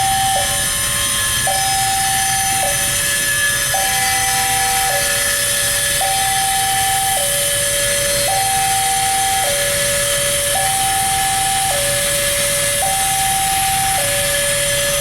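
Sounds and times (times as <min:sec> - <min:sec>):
two-tone electronic warning alarm: 0:00.0 - 0:15.0.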